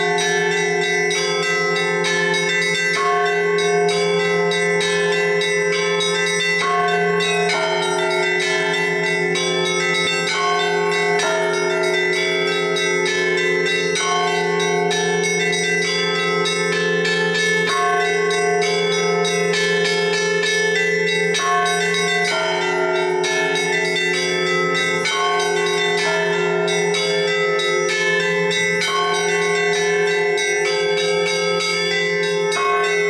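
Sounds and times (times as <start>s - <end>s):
large bells ringing: 0.0s - 33.0s.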